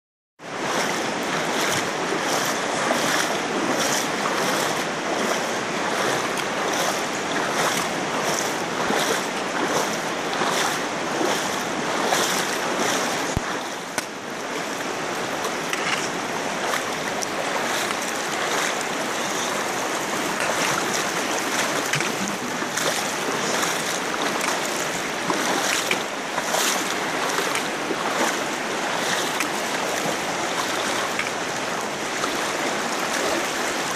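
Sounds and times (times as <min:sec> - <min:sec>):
feet splashing through water: 0:00.4 - 0:33.9
river water rushing over rocks: 0:00.4 - 0:33.9.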